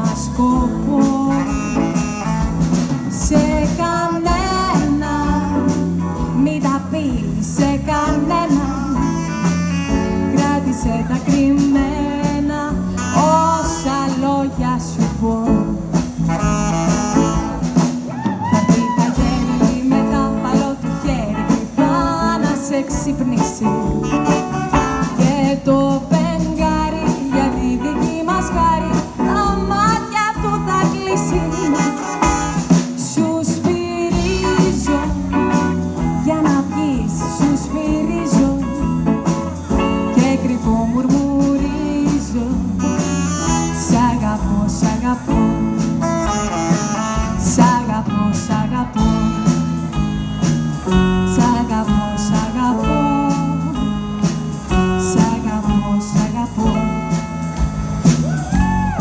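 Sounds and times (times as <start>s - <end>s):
live swing band playing: 0.0s - 59.0s.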